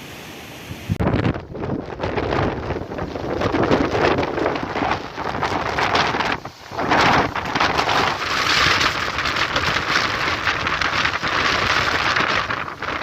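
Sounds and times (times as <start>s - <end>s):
gale-force wind gusting: 0.0s - 13.0s
wind noise on microphone: 0.6s - 13.0s.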